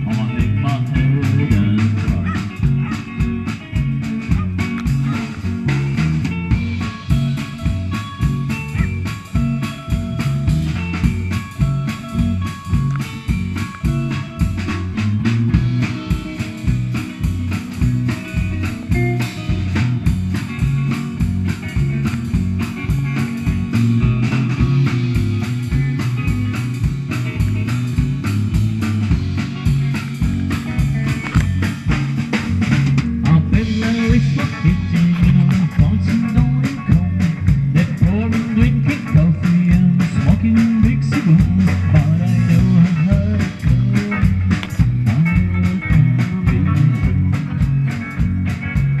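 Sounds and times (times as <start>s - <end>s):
drum kit beat: 0.0s - 49.0s
electric guitars: 0.0s - 49.0s.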